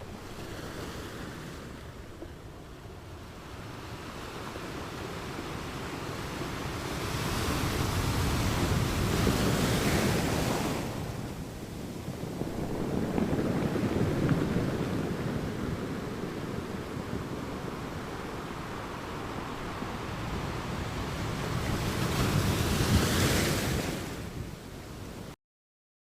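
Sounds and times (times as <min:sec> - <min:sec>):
ocean waves breaking on beach: 0:00.0 - 0:25.4
wind: 0:00.0 - 0:25.4.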